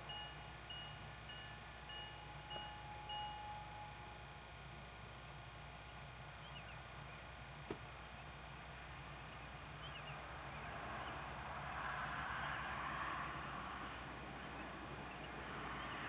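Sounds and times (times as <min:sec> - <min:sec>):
distant diesel locomotive rumble: 0:00.0 - 0:16.0
quiet outdoor background noise: 0:00.0 - 0:16.0.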